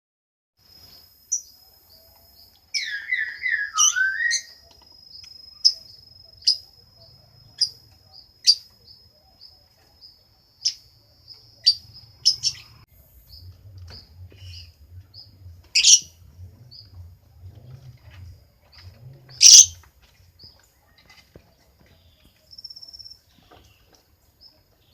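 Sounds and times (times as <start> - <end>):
lovebird chirping: 0.8 - 21.0.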